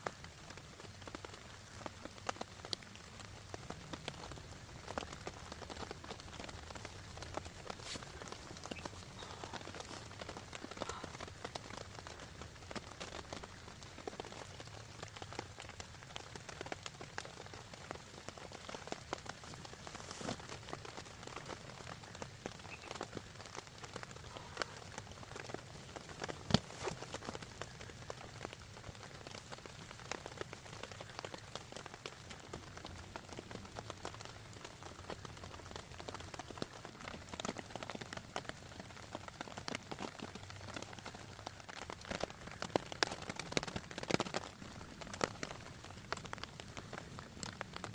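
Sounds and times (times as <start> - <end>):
raindrops ticking: 0.0 - 47.9
steady rain: 0.0 - 47.9.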